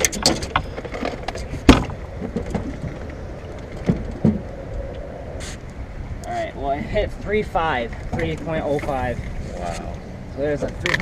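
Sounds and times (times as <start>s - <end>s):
water noise: 0.0s - 11.0s
wind: 0.0s - 11.0s.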